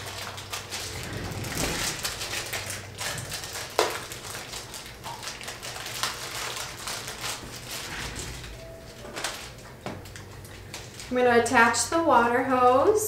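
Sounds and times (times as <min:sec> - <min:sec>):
plastic rustling and crinkling: 0:00.0 - 0:11.3.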